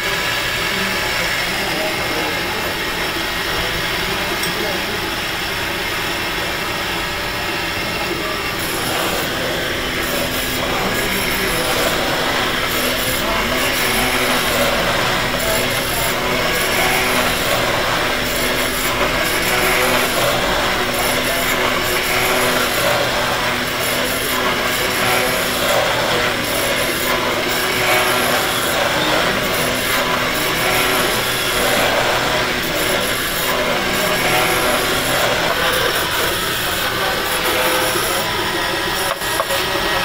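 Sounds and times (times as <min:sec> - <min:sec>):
machine tool cutting metal: 0:00.0 - 0:40.0.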